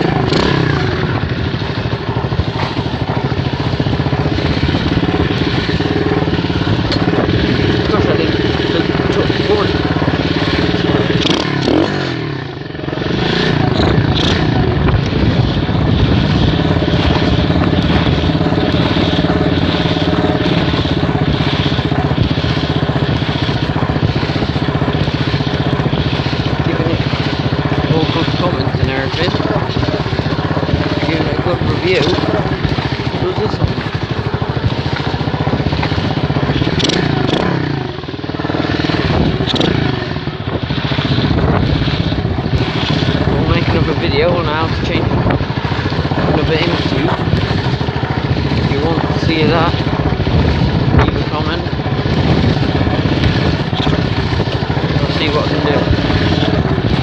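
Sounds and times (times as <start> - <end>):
motorbike engine running: 0.0 - 57.0.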